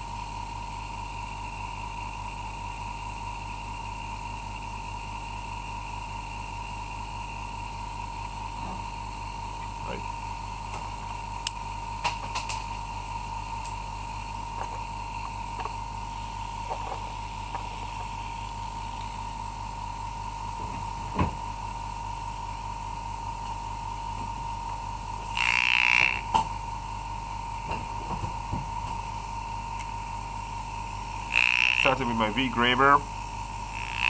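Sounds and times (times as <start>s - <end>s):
machine hum with whine: 0.0s - 34.0s.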